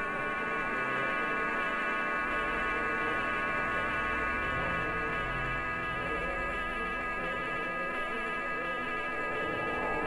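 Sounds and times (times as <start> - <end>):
buzzing drone of held tones: 0.0 - 10.0.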